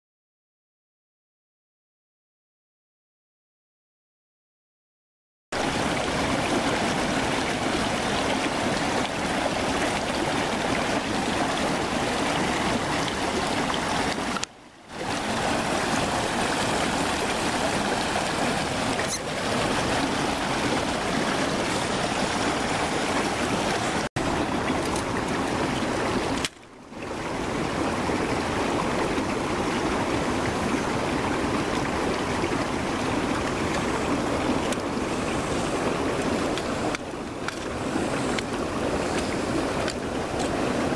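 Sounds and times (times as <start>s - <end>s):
running water rushing: 5.6s - 40.9s.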